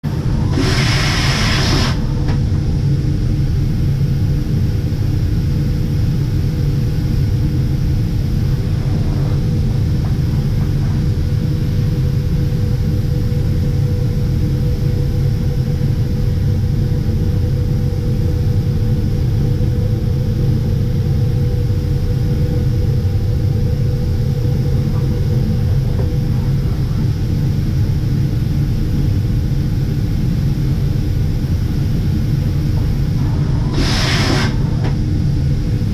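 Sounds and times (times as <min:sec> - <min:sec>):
machining centre humming and whining: 0:00.0 - 0:35.9.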